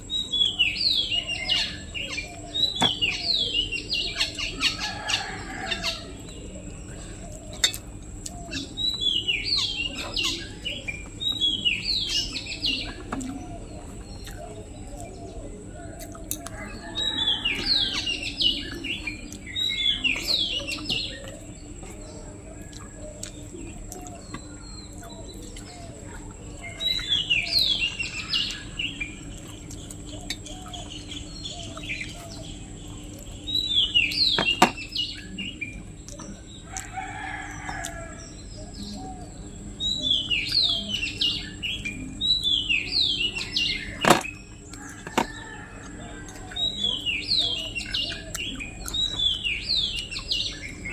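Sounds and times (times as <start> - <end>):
small bird singing: 0.0 - 50.9.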